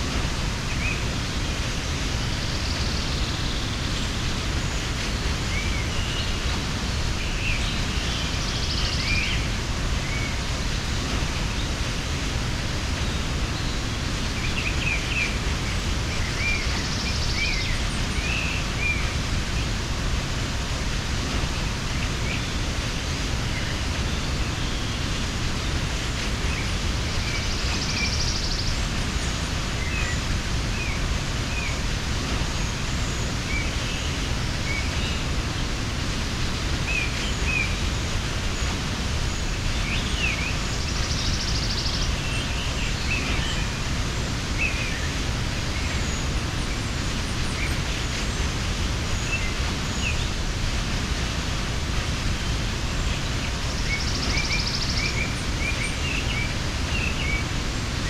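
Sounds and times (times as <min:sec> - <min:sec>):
small birds chirping: 0:00.0 - 0:58.0
waterfall rushing: 0:00.0 - 0:58.0.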